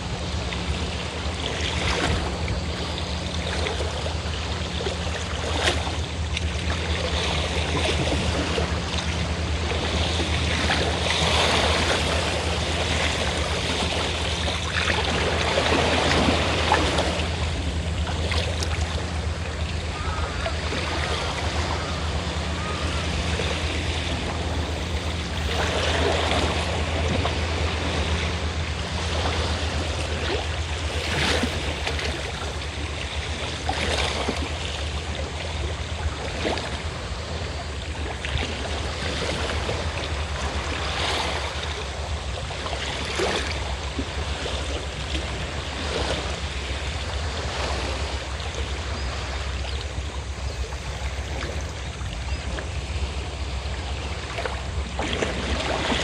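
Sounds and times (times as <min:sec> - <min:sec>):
boat engine humming: 0:00.0 - 0:56.0
sea waves washing ashore: 0:00.0 - 0:56.0.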